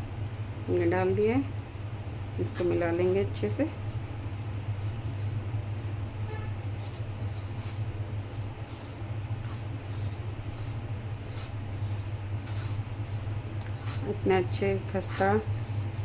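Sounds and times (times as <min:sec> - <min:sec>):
low hum: 0:00.0 - 0:16.0
hand mixing flour in bowl: 0:02.4 - 0:16.0.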